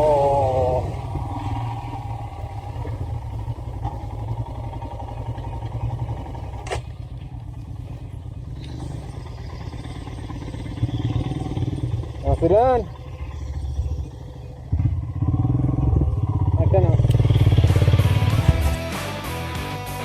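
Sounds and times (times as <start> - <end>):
motorcycle engine idling: 0.0 - 19.5.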